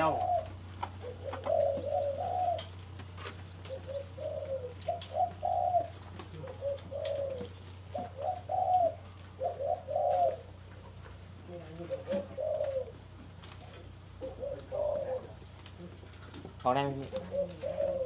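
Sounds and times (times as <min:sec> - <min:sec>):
doves cooing: 0:00.0 - 0:18.0
steady low hum: 0:00.0 - 0:18.0.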